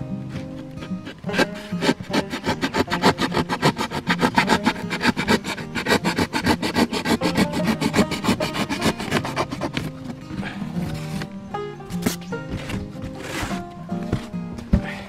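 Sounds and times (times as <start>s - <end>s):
background music: 0.0s - 15.0s
knife sawing through cardboard: 0.2s - 11.3s, 11.9s - 13.7s.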